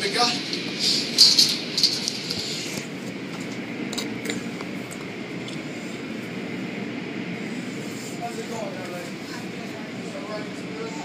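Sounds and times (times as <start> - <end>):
car wash machinery rumbling: 0.0 - 11.0.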